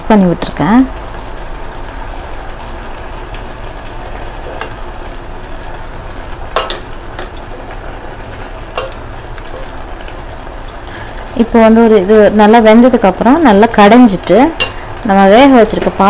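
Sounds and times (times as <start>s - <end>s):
pot hissing and steaming: 0.0s - 16.0s.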